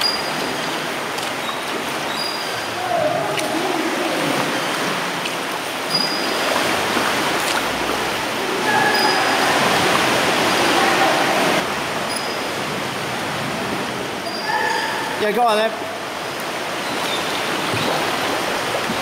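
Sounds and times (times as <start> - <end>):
sea water rushing around kayak: 0.0 - 19.0.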